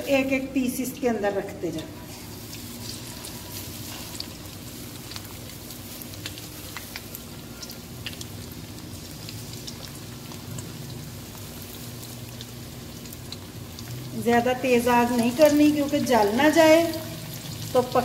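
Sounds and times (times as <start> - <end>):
fish frying in hot oil: 2.0 - 18.0
oil popping and crackling: 2.1 - 18.0.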